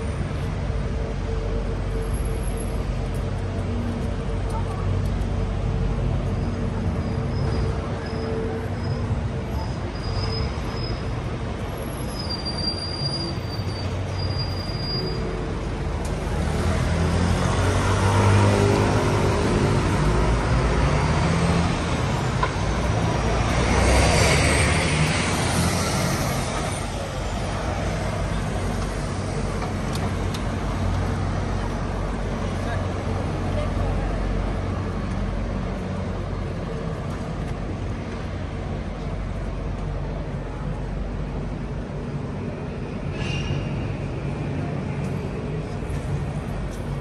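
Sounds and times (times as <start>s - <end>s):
city street traffic: 0.0s - 47.0s
large vehicle engine hum: 0.0s - 47.0s.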